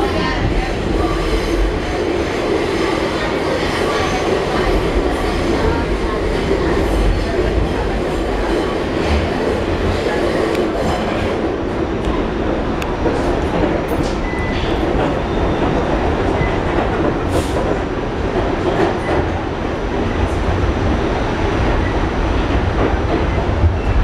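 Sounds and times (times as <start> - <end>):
subway wheels rumbling on rail: 0.0 - 24.0.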